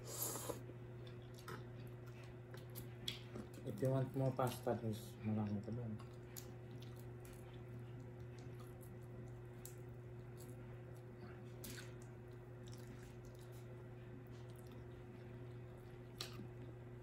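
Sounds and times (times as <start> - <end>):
steady low hum: 0.0 - 17.0
wet chewing: 0.4 - 16.8.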